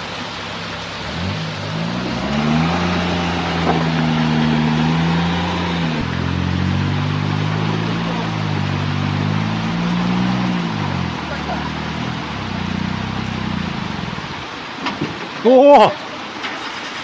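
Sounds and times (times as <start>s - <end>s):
engine revving under load: 0.9s - 14.6s.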